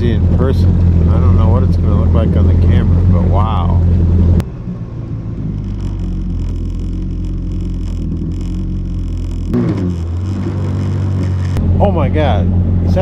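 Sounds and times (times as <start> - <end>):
personal watercraft engine running: 0.0 - 13.0.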